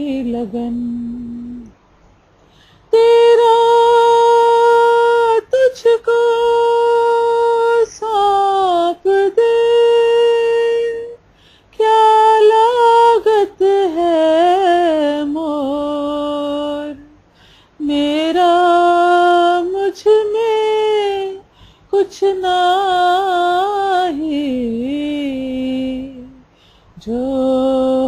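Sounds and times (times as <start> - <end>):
woman singing unaccompanied: 0.0 - 1.8, 2.9 - 28.0.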